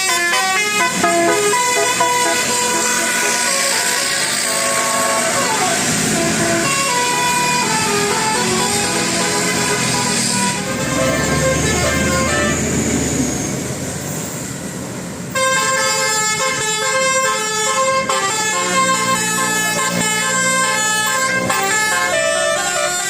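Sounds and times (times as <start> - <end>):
musical bus horn melody: 0.0 - 12.8, 15.3 - 23.0
engine and road noise: 0.0 - 23.0.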